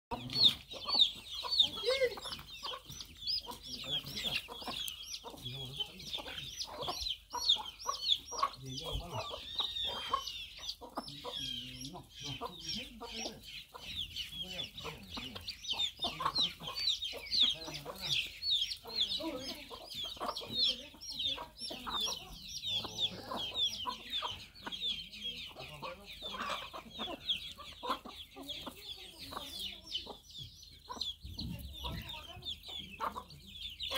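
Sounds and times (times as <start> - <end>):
chicks peeping: 0.1 - 33.9
hens clucking: 0.1 - 33.9.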